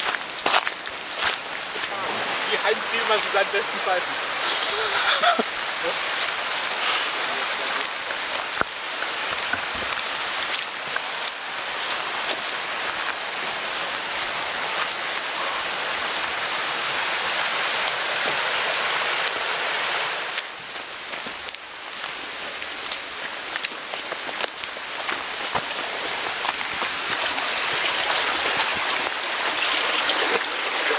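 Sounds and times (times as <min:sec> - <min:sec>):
rain falling in woodland: 0:00.0 - 0:30.9
stream rushing: 0:00.0 - 0:30.9.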